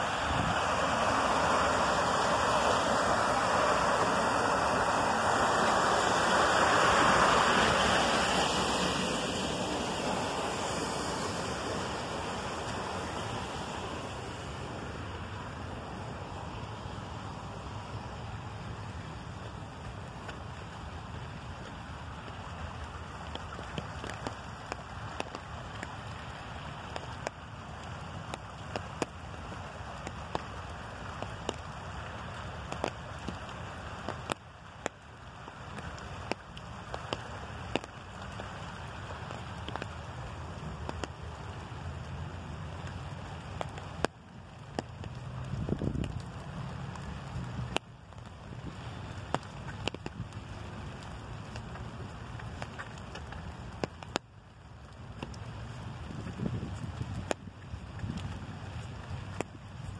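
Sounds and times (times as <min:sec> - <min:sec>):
raindrops tapping on umbrella: 0:00.0 - 0:59.9
running runoff water: 0:00.0 - 0:59.9
steady hiss of rain: 0:00.0 - 0:59.9.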